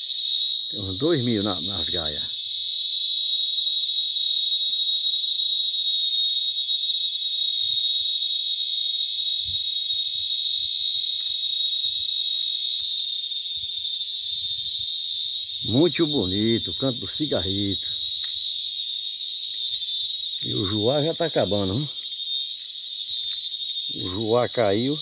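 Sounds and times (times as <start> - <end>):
cicadas shrill drone: 0.0 - 25.0.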